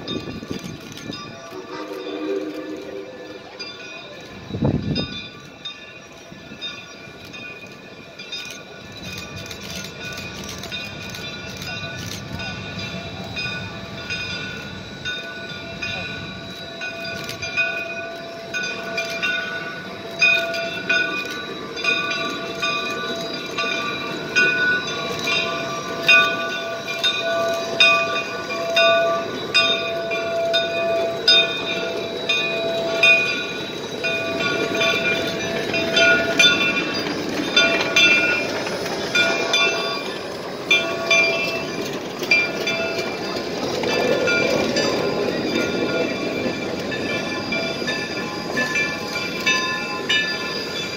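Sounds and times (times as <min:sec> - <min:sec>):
locomotive bell ringing: 0:00.0 - 0:50.9
rushing steam noise: 0:00.0 - 0:50.9.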